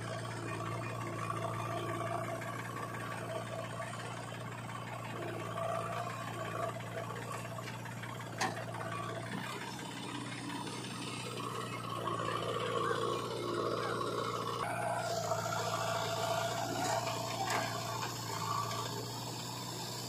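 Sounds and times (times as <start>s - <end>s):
diesel engines running: 0.0s - 20.0s.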